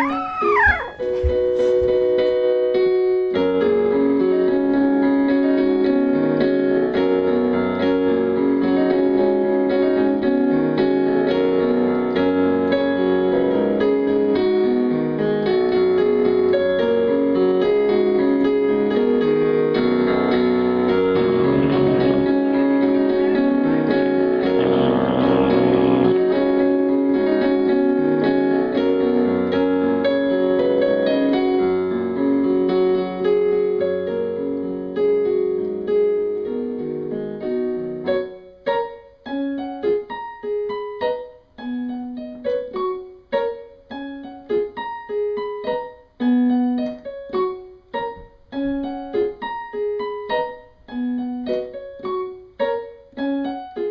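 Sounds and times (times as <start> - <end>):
piano chords and notes: 0.0 - 53.9.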